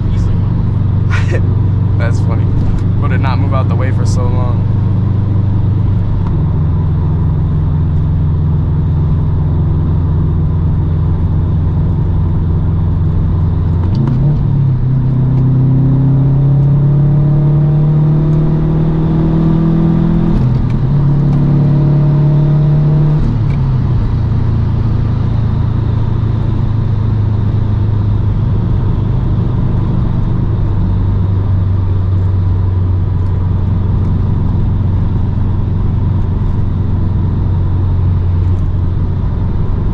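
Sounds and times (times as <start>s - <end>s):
car engine cruising and accelerating: 0.0s - 39.9s.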